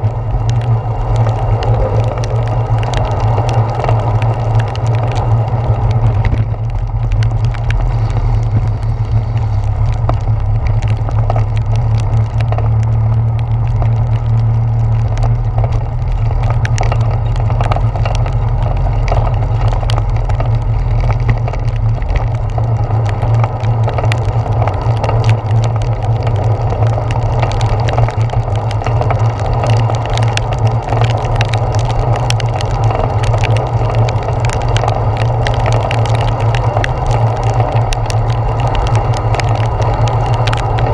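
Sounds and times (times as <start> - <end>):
raindrops ticking on camera: 0.0 - 40.9
wind and road rumble: 0.0 - 40.9.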